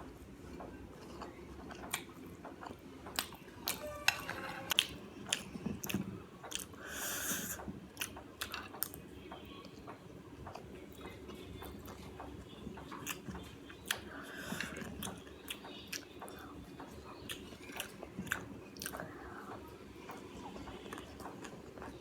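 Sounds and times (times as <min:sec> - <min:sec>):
person chewing food: 0:00.2 - 0:09.0, 0:09.6 - 0:22.0.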